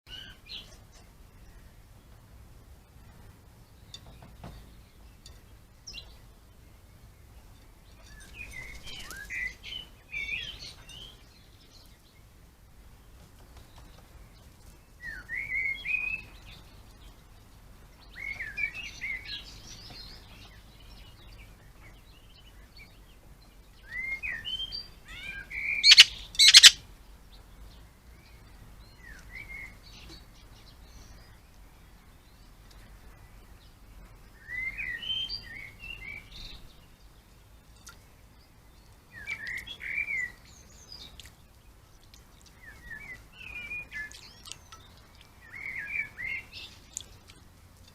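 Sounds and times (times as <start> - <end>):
songbird chirping: 0.1 - 47.9.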